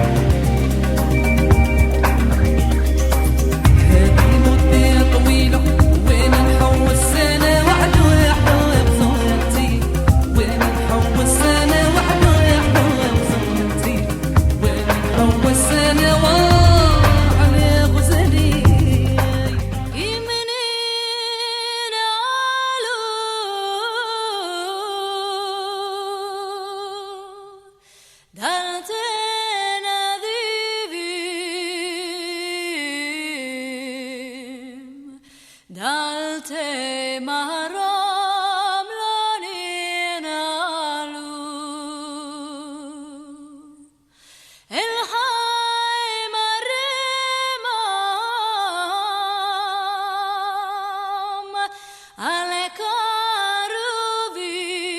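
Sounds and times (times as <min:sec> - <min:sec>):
woman singing with vibrato: 0:03.6 - 0:44.0, 0:44.7 - 0:54.9.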